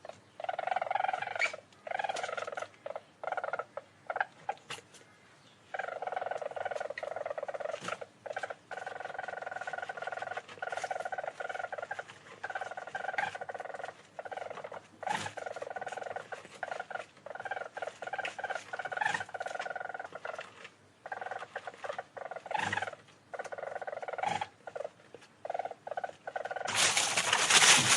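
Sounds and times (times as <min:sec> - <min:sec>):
weasel trilling chatter: 0:00.0 - 0:04.8, 0:05.7 - 0:27.9.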